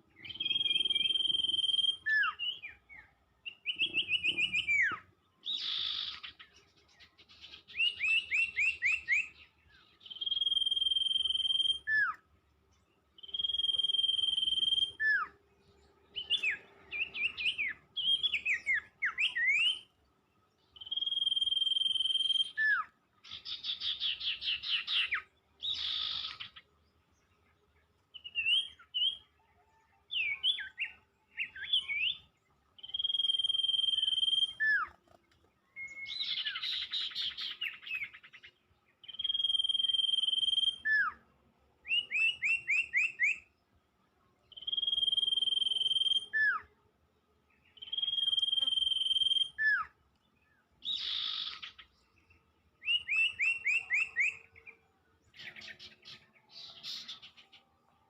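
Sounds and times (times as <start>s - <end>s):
songbird calling: 0.0s - 43.7s, 44.4s - 58.0s.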